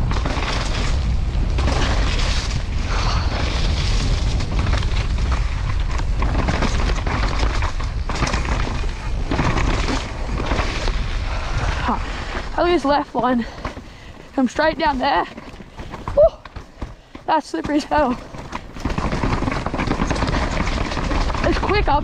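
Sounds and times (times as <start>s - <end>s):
bike knocking and rattling: 0.0s - 22.0s
bike tyre noise: 0.0s - 22.0s
wind rumbling on microphone: 0.0s - 22.0s.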